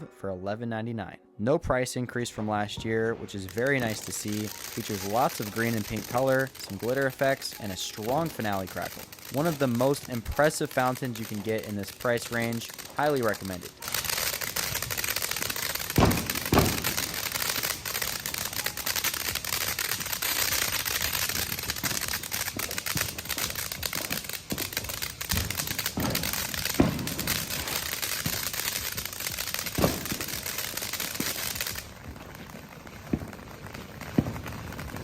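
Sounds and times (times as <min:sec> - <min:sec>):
firework fountain crackling: 0:02.2 - 0:35.0
deep firework pops: 0:03.2 - 0:35.0.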